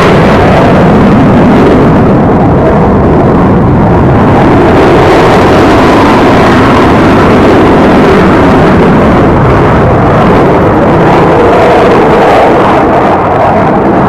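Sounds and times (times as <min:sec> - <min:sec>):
aircraft engine roar: 0:00.0 - 0:14.0.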